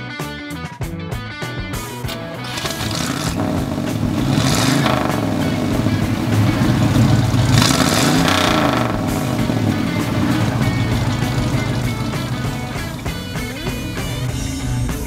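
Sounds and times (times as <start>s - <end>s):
car engine revving: 2.3s - 15.0s.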